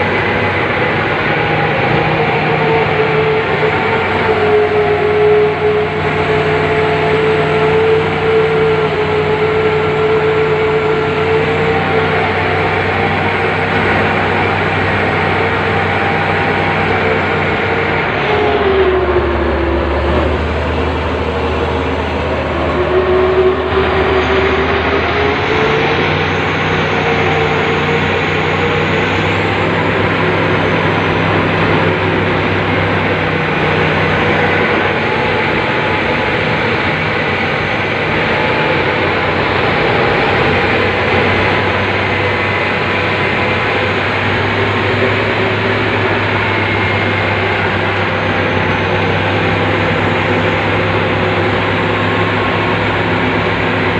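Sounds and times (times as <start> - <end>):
excavator engine and hydraulics: 0.0 - 53.9.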